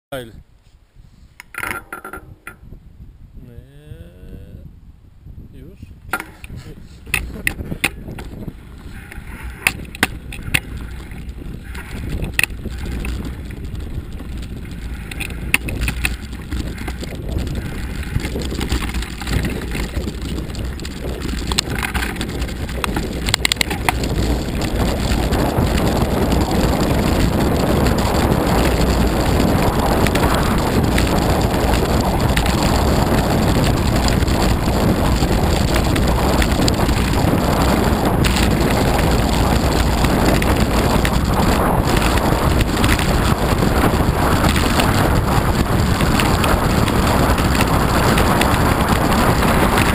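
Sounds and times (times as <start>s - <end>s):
wind and tyres rushing: 0.1s - 49.9s
bike knocks and rattles: 1.5s - 2.7s, 6.1s - 49.9s.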